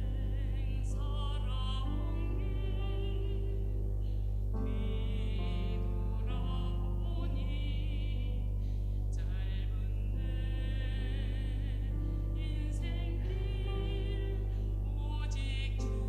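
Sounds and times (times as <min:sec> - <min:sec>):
woman singing a hymn: 0:00.0 - 0:04.0, 0:04.6 - 0:16.0
steady low hum: 0:00.0 - 0:16.0.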